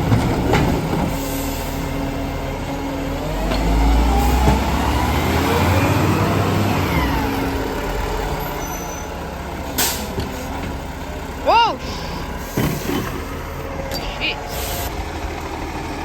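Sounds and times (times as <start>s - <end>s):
diesel engine running and revving: 0.0s - 16.0s.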